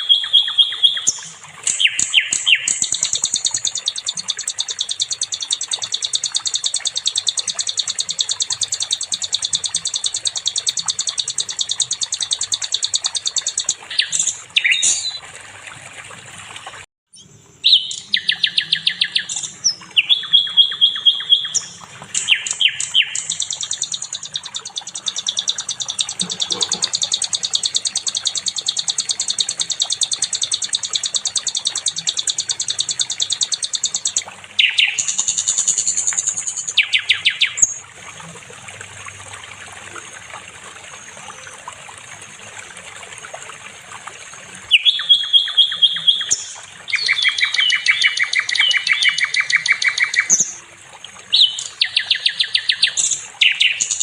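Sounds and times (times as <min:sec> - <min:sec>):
songbird trilling: 0:00.0 - 0:15.2, 0:17.1 - 0:37.8, 0:44.7 - 0:50.6, 0:51.3 - 0:54.0.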